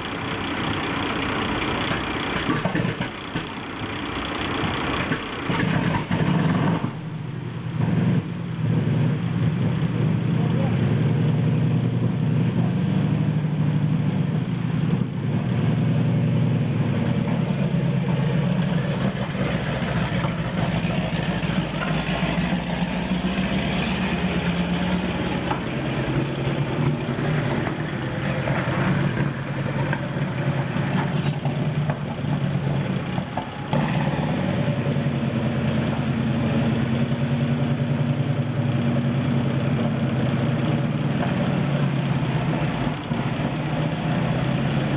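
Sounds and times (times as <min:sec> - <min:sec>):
tank engine running at low revs: 0:00.0 - 0:44.9.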